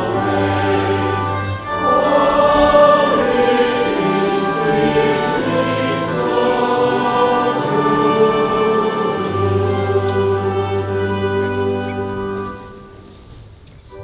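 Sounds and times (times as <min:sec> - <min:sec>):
choir singing a hymn: 0:00.0 - 0:13.3
instrumental accompaniment: 0:00.0 - 0:13.4.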